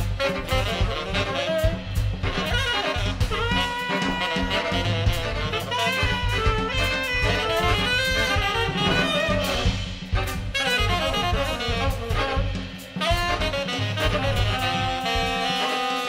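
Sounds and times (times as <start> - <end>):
drum and cymbal strikes: 0.0 - 16.0
tenor saxophone playing: 0.0 - 16.0.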